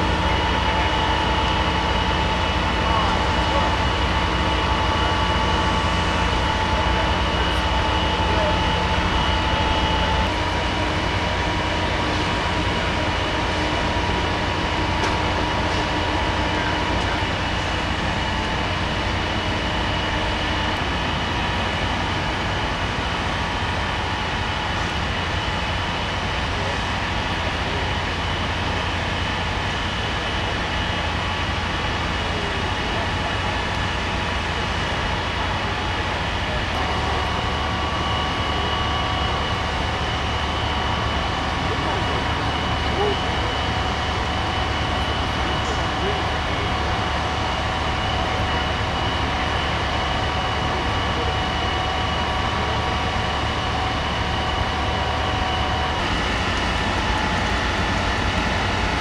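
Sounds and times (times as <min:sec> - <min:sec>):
fire engine pumps droning: 0:00.0 - 0:59.0
steady whine tones: 0:00.0 - 0:59.0.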